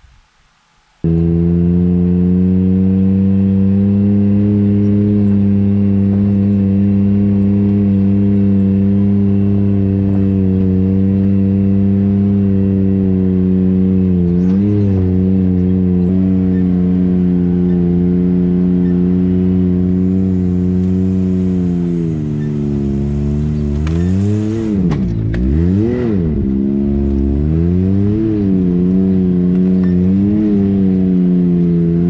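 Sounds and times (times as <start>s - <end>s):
off-road vehicle engine running: 1.0s - 32.0s.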